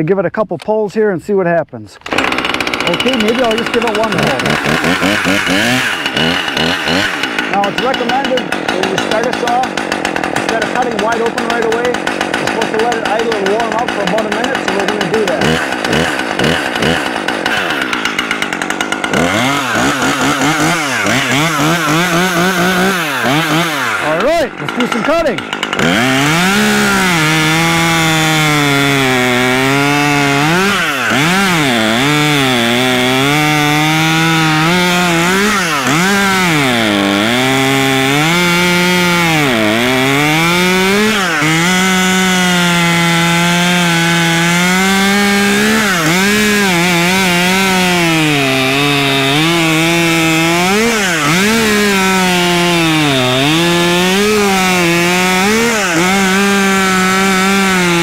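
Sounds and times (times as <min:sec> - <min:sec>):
chainsaw cutting wood: 0:02.0 - 0:58.0.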